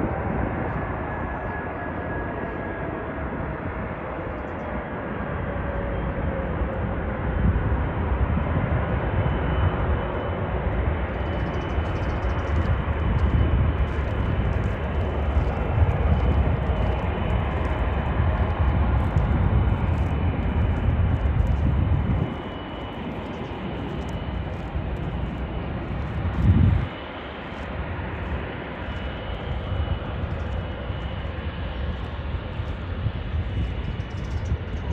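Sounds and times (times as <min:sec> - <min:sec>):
faint high engine whine: 0:00.0 - 0:34.9
jet engines rumbling: 0:00.0 - 0:34.9.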